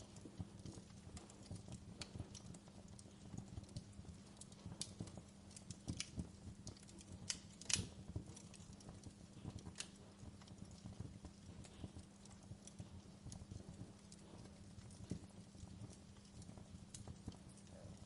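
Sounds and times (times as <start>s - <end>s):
low steady hum: 0.0s - 18.0s
wood fire crackling: 0.0s - 18.0s.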